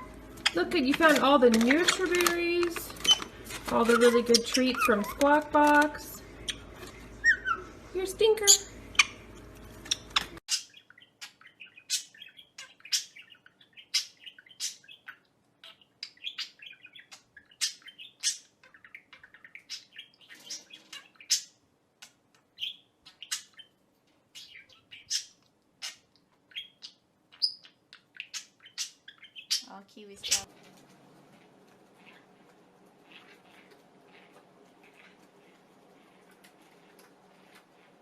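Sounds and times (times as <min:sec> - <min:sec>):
parrot chirping: 0:00.0 - 0:30.6, 0:31.3 - 0:38.0.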